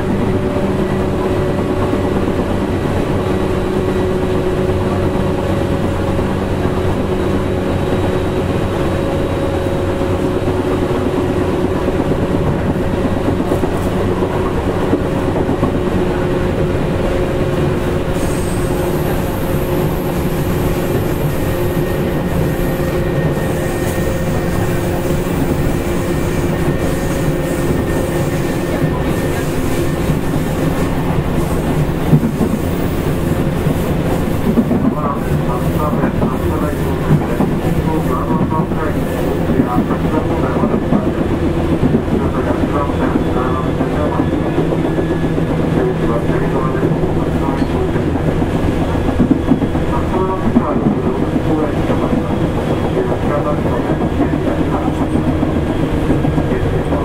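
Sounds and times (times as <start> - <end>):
train motor and gear hum: 0.0 - 57.0
train wheels rumbling on rails: 0.0 - 57.0.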